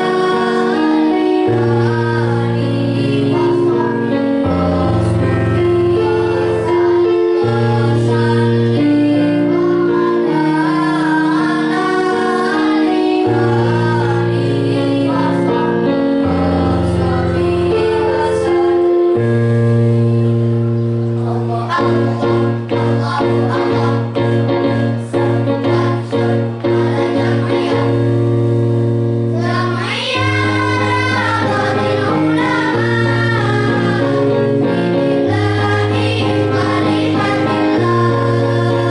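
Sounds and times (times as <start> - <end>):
children's choir singing: 0.0 - 38.9
musical accompaniment: 0.0 - 38.9.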